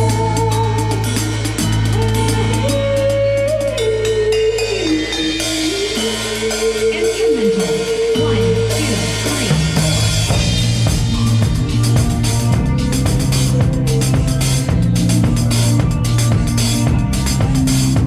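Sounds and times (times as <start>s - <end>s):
drum kit beat: 0.0s - 3.8s, 5.4s - 18.0s
pulsing bass line: 0.0s - 18.0s.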